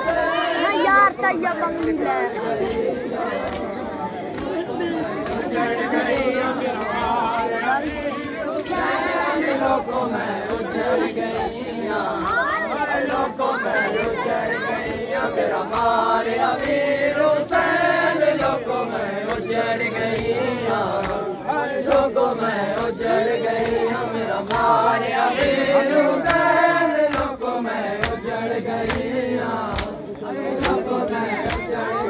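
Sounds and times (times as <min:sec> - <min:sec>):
crowd chanting in unison: 0:00.0 - 0:32.0
hands slapping chests: 0:02.8 - 0:13.4, 0:14.0 - 0:16.9, 0:18.3 - 0:20.3, 0:20.9 - 0:24.8, 0:25.4 - 0:31.8.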